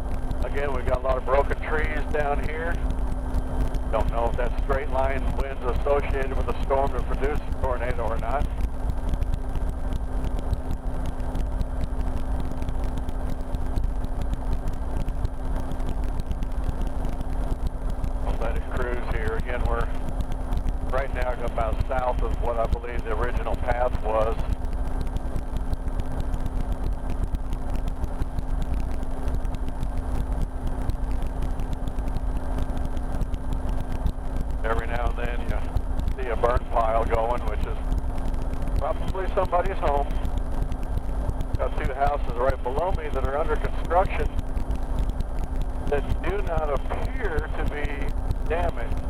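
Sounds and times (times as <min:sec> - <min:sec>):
helicopter engine and rotor drone: 0:00.0 - 0:49.0.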